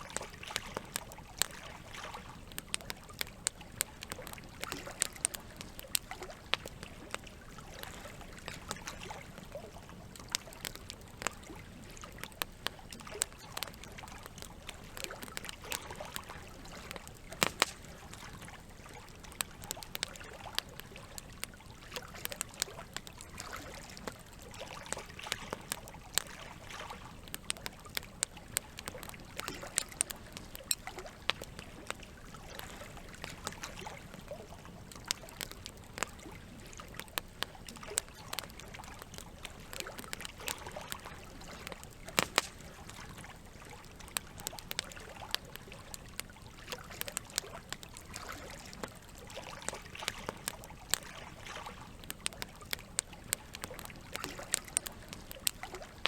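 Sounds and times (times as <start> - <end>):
campfire crackling: 0.0 - 56.0
running water trickling: 0.0 - 56.0.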